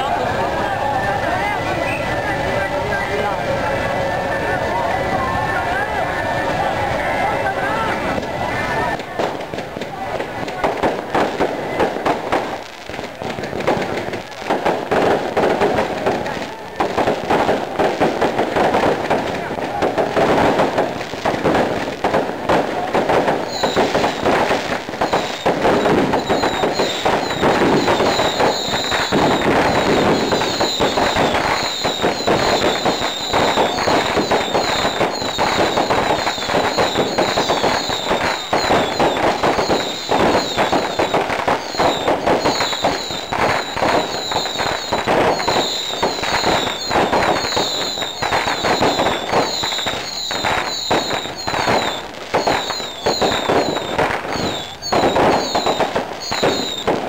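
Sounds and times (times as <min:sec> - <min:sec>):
high fireworks whistles: 0:00.0 - 0:03.7, 0:04.4 - 0:57.0
fireworks crackling and popping: 0:00.0 - 0:57.0.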